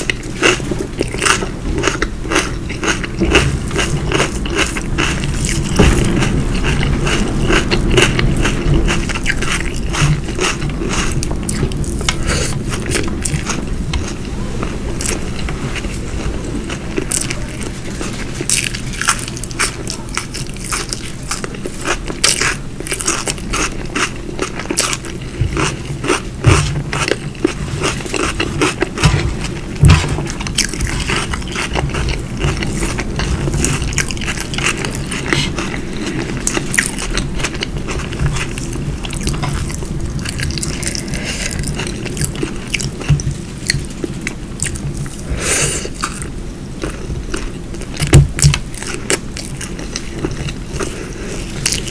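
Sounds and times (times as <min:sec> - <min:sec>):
close chewing and biting: 0:00.0 - 0:51.9.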